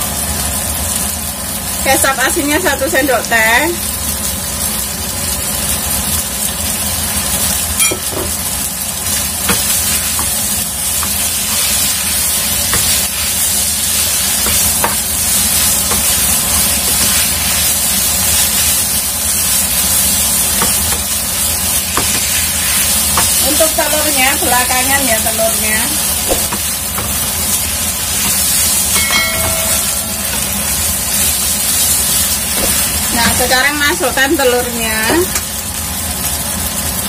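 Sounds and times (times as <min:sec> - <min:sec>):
noodles sizzling in a frying pan: 0:00.0 - 0:37.0.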